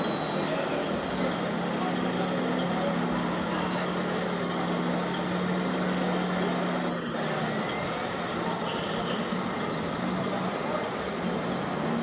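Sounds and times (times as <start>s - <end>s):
busy hall background noise: 0.0s - 12.0s.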